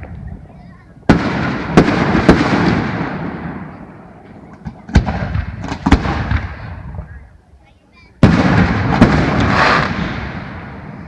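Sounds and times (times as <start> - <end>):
fireworks bangs: 0.0 - 7.2, 8.2 - 11.0
fireworks crackling: 0.0 - 7.2, 7.9 - 11.0
fireworks rumble: 0.0 - 11.0.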